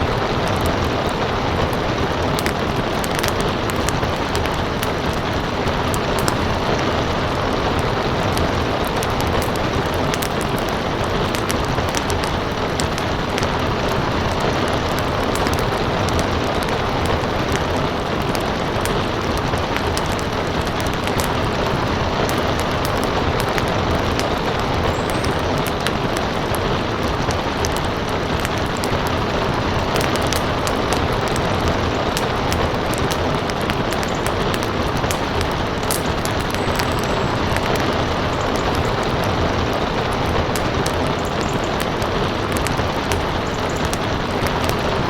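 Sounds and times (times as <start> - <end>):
heavy rain hissing: 0.0 - 45.0
wood fire crackling: 0.0 - 45.0.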